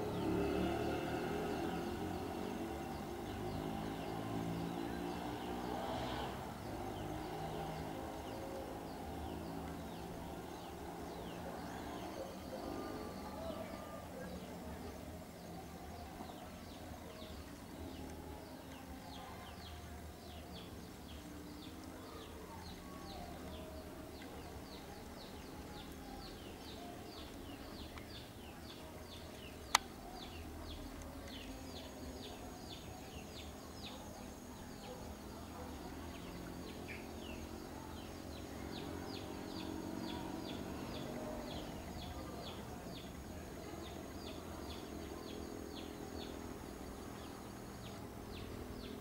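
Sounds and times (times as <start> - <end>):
faint low outdoor hum: 0.0 - 49.0.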